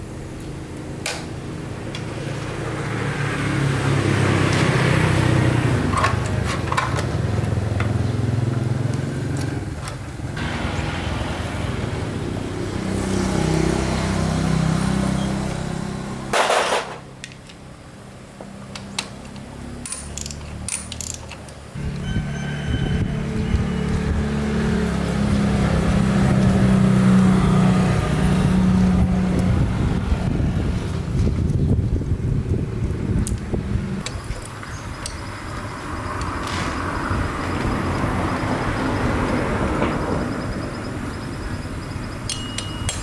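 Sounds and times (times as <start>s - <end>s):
motorbike engine revving: 1.6s - 17.0s, 21.8s - 43.0s.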